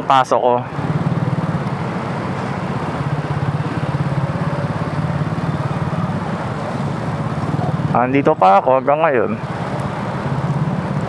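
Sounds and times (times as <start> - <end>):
traffic noise: 0.0 - 11.0
motorcycle engine running: 0.7 - 11.0.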